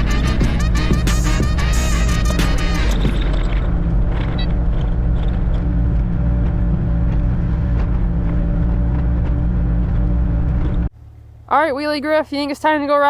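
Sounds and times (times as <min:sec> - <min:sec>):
diesel engine running: 0:00.0 - 0:11.4.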